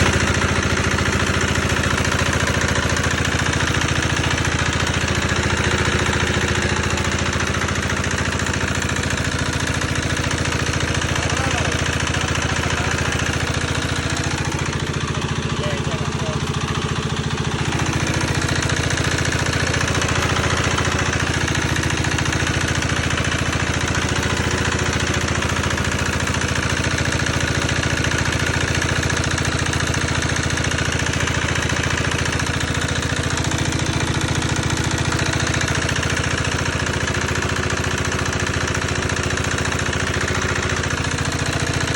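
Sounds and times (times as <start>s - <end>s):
pellet machine droning: 0.0s - 41.9s.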